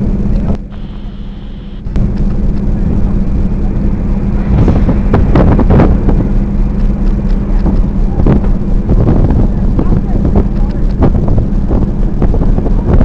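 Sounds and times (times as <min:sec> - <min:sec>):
low hum from ship: 0:00.0 - 0:13.0
wind buffeting microphone: 0:01.8 - 0:13.0.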